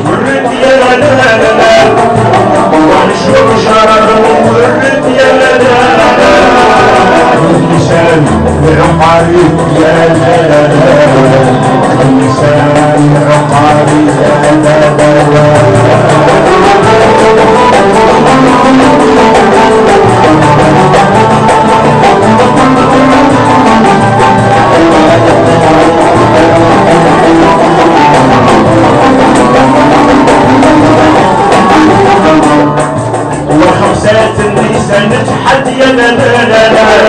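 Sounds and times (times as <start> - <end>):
frame drum beats: 0.0 - 37.0
plucked lute melody: 0.0 - 37.0.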